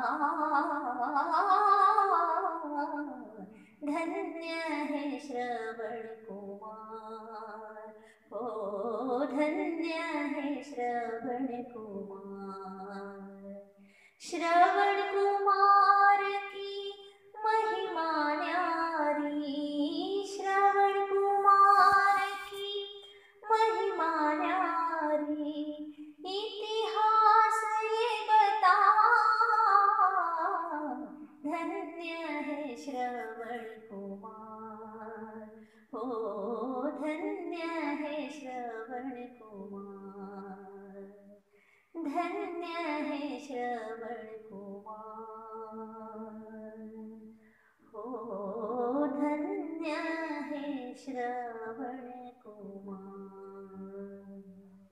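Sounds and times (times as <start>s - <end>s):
woman singing devotional song: 0.0s - 54.9s.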